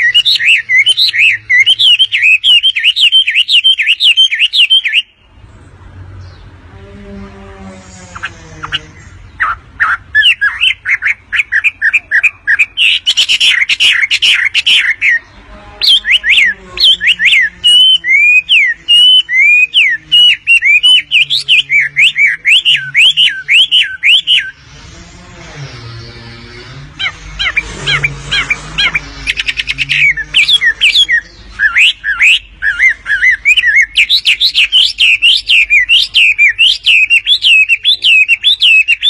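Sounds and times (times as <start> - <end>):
bird chirping rapidly: 0.0 - 6.7, 7.9 - 24.8, 25.7 - 39.0.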